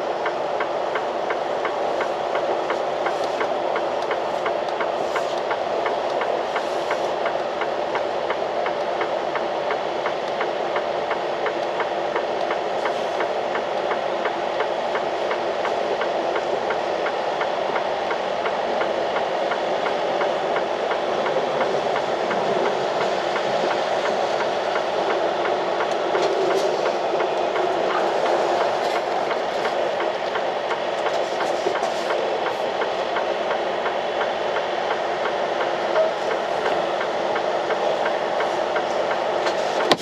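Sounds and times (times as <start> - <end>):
truck diesel engine running: 0.0 - 40.0.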